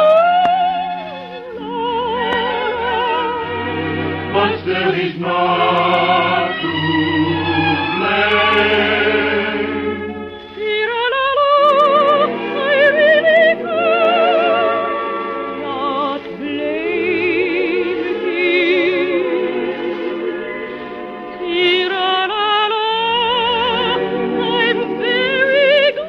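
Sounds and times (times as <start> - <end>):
operatic singing with vibrato: 0.0 - 26.0
orchestral accompaniment: 0.0 - 26.0.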